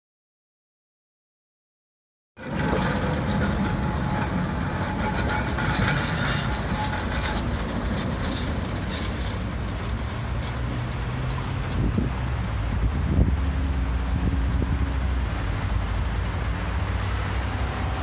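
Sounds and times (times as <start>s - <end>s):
tram car running on rails: 2.4s - 18.0s.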